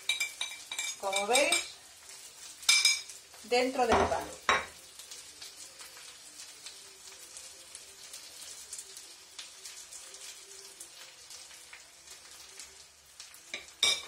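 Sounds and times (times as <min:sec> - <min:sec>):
oil sizzling in a frying pan: 0:00.0 - 0:14.0.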